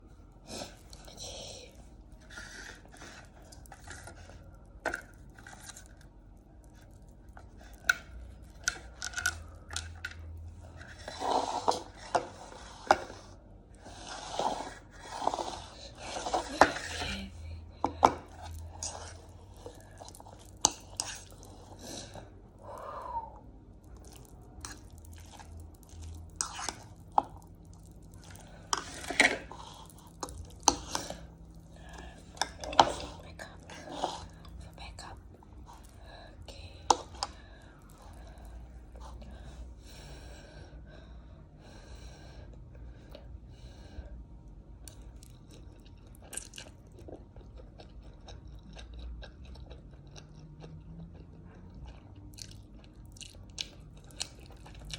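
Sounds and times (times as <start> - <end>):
chewing and crunching: 0.2 - 39.6, 44.4 - 54.9.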